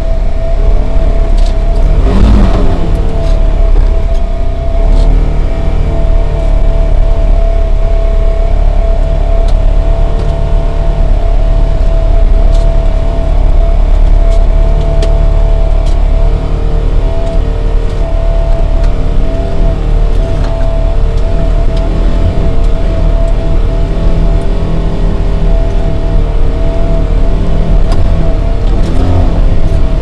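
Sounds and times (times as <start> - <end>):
vehicle engine whine and rumble: 0.0 - 30.0.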